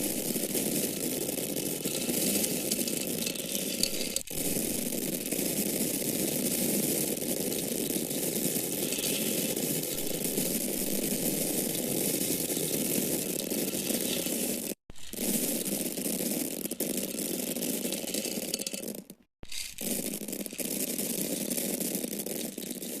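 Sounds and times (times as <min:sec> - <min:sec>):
grains falling in a stream: 0:00.0 - 0:23.0.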